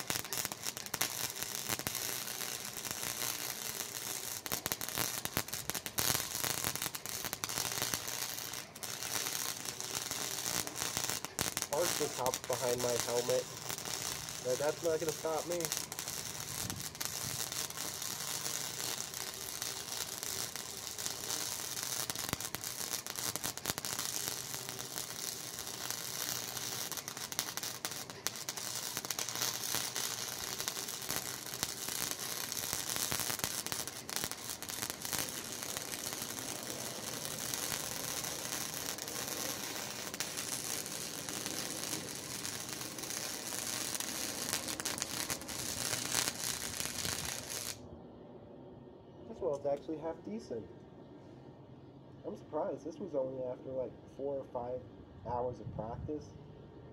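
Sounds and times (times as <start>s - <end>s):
welder arc crackling: 0.0s - 47.8s.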